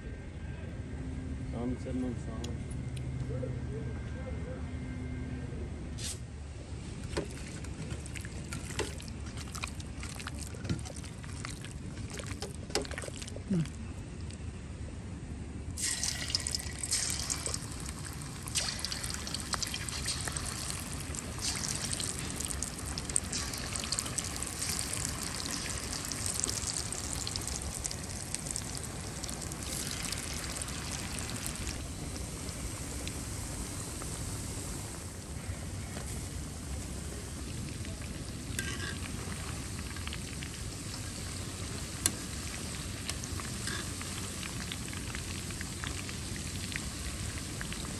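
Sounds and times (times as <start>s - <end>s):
chicken deep-frying in oil: 6.9s - 13.7s, 15.8s - 47.9s.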